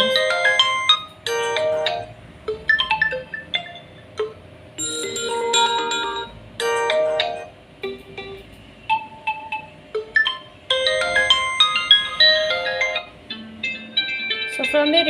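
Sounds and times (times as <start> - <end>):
phone ringtone chime melodies: 0.0 - 7.6, 8.9 - 15.0.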